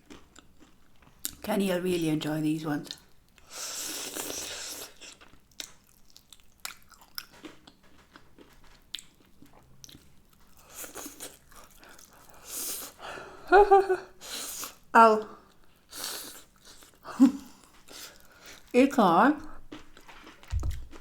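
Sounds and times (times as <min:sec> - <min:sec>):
person crunching and chewing food: 0:00.0 - 0:01.4, 0:02.9 - 0:13.1, 0:14.2 - 0:18.8, 0:19.4 - 0:21.0.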